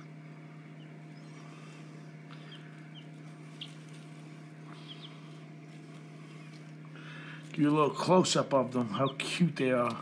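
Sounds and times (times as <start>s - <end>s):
chicks peeping: 0.0s - 10.0s
steady low hum: 0.0s - 10.0s.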